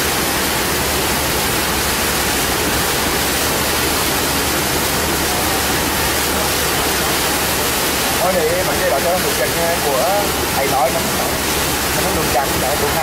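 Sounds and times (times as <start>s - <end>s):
low hum of boat: 0.0s - 13.0s
rushing noise aboard a boat: 0.0s - 13.0s.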